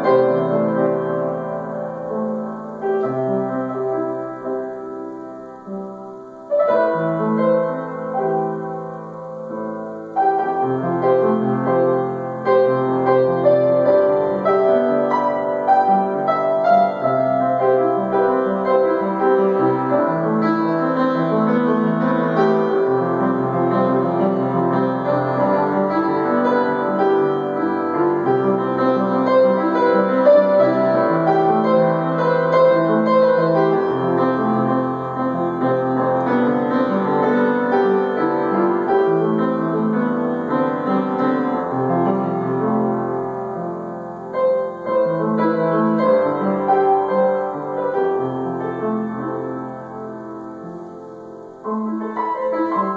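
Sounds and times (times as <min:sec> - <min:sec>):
solo piano: 0:00.0 - 0:52.9.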